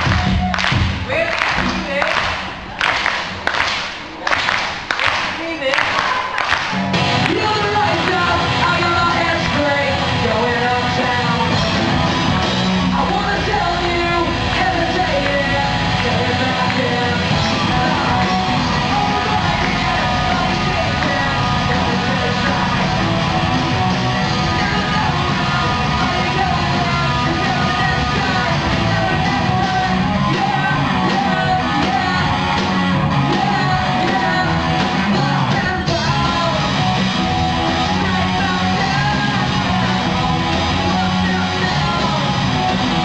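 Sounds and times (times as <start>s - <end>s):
drums: 0.0s - 43.0s
singer's vocals: 0.0s - 43.0s
electric guitars: 6.1s - 43.0s.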